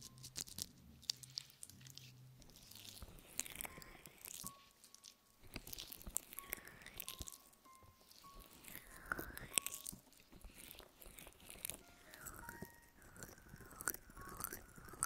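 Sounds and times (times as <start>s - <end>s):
sharp ticks and scratches: 0.0s - 15.0s.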